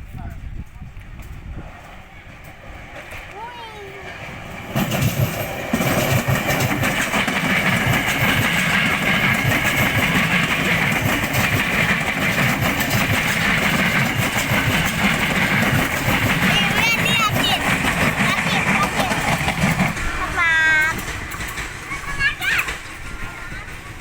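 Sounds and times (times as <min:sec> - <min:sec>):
wheels clattering over rail joints: 0:00.0 - 0:24.0
electric train passing: 0:01.1 - 0:24.0.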